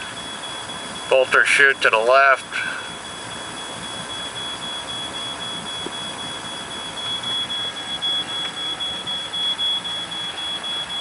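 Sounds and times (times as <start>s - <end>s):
boat underway hiss and rumble: 0.0s - 11.0s
high-pitched electronic tone: 0.0s - 11.0s.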